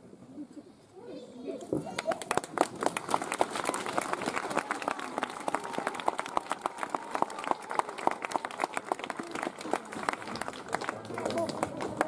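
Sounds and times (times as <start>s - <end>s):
crowd applauding: 1.9s - 12.0s.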